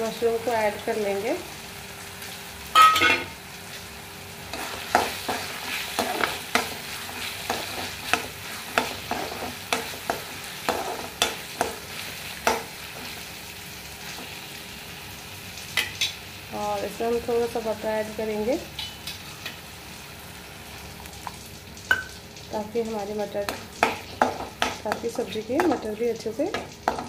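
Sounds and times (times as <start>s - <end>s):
low sizzle: 0.0s - 27.0s.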